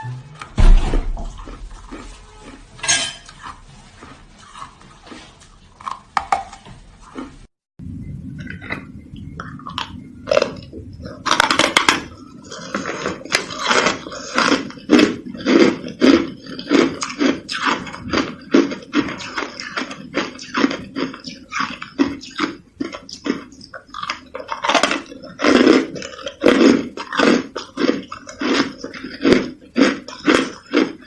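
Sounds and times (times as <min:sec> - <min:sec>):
ice being chewed and crunched: 0:01.0 - 0:07.5, 0:08.4 - 0:31.0.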